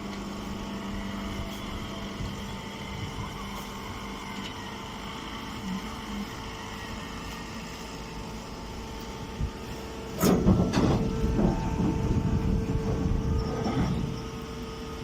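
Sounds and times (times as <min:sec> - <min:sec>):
hay baler humming: 0:00.0 - 0:15.0.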